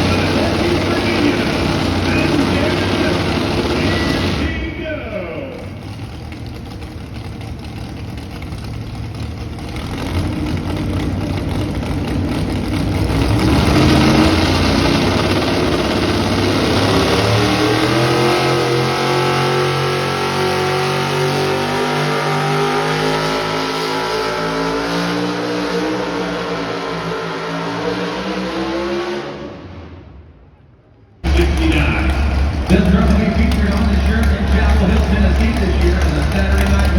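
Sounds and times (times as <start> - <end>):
truck engine at full throttle: 0.0 - 30.3, 31.2 - 36.9.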